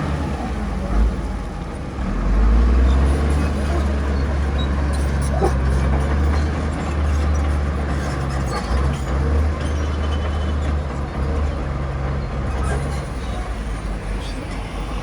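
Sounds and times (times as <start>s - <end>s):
heavy diesel machinery engine drone: 0.0s - 15.0s.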